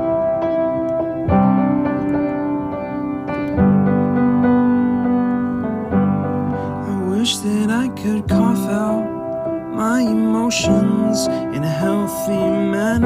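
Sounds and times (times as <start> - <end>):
piano intro: 0.0 - 13.0
sustained keyboard chords: 0.0 - 13.0.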